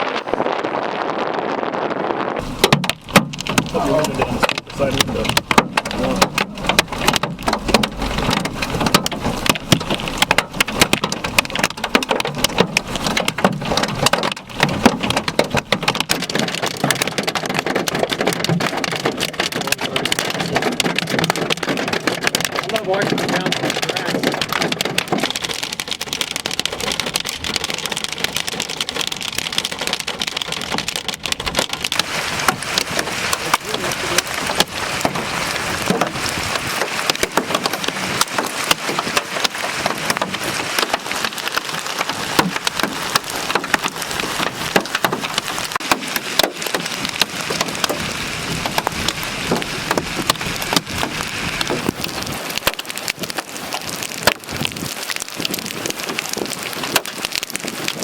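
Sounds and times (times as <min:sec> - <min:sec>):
heavy rain on roof and glass: 0:00.0 - 0:58.0.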